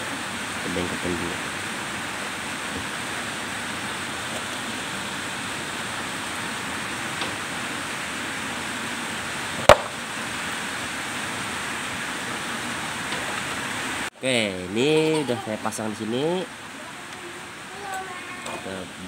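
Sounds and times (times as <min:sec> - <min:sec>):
rain hissing: 0:00.0 - 0:19.0.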